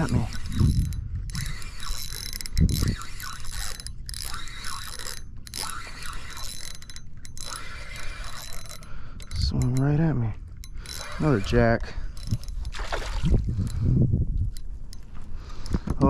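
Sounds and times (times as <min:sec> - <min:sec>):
fishing reel ratcheting: 0:00.0 - 0:16.0.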